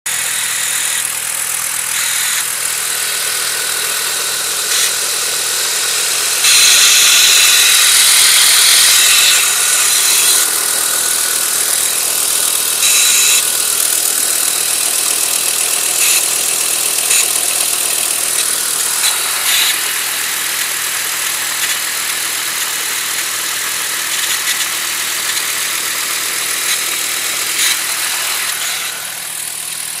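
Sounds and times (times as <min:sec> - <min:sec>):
vehicle engine running: 0:00.1 - 0:30.0
loud hissing whir: 0:03.1 - 0:13.9, 0:15.9 - 0:23.4, 0:24.0 - 0:30.0.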